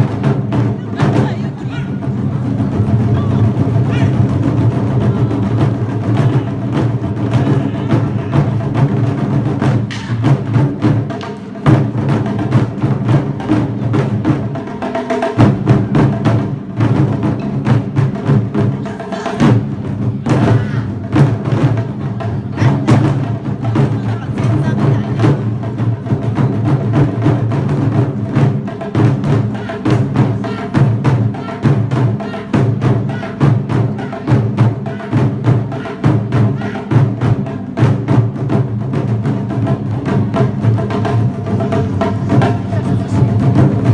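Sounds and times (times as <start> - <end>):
percussion music drums: 0.0 - 43.9.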